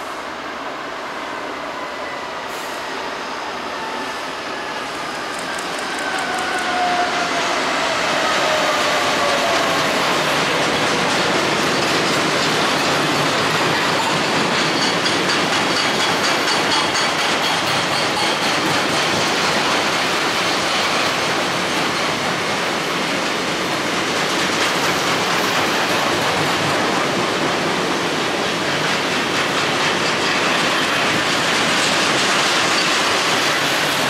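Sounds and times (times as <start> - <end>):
freight train wheels clicking on rails: 4.7 - 34.0.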